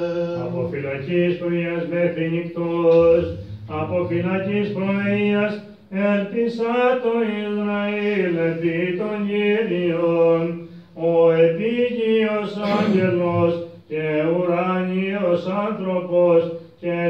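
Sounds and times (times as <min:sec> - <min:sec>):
man singing chant: 0:00.0 - 0:17.0.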